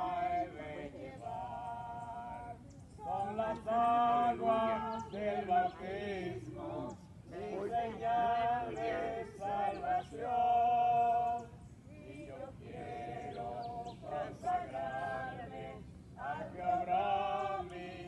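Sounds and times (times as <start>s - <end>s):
group singing a hymn: 0.0s - 18.0s.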